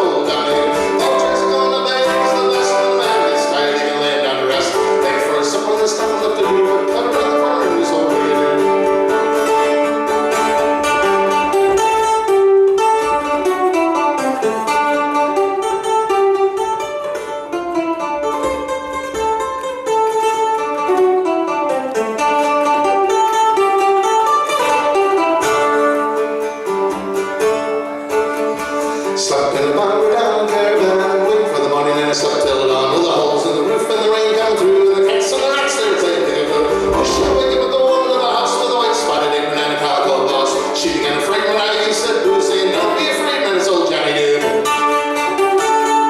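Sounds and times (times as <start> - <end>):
acoustic folk guitar picking: 0.0 - 46.0.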